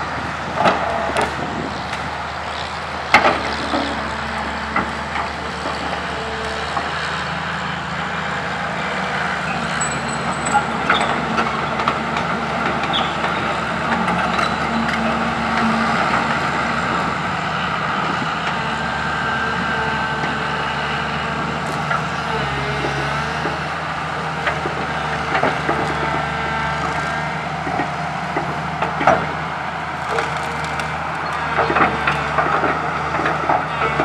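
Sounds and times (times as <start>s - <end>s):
diesel engines running: 0.0s - 34.0s.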